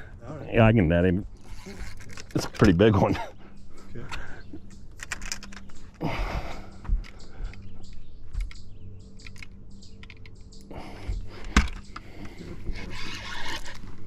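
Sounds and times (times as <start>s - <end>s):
fishing gear clicking and knocking: 1.3s - 3.2s, 3.8s - 14.0s.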